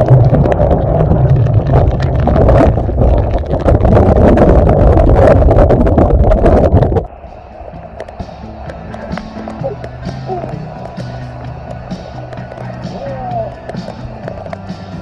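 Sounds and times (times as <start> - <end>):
wind blasting the microphone: 0.0 - 14.3.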